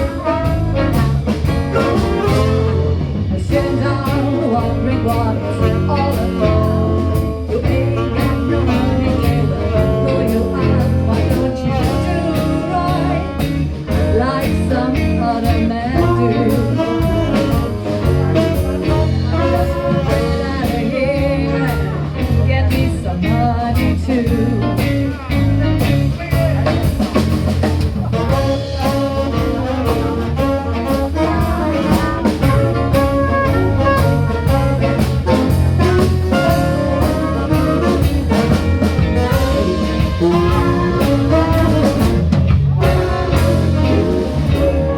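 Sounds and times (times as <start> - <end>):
live band playing bluesy jazz: 0.0 - 44.9.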